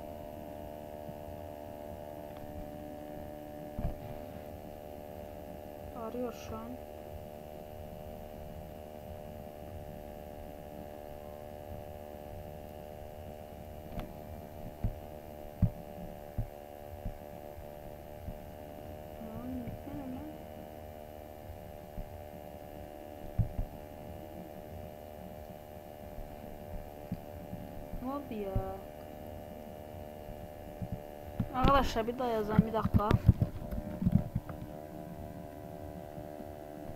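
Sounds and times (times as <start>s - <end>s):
electrical hum and buzz: 0.0s - 36.9s.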